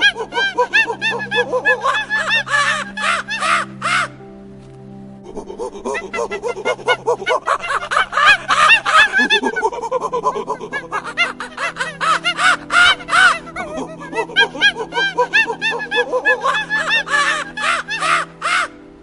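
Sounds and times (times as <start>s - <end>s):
background music with held tones: 0.0s - 19.0s.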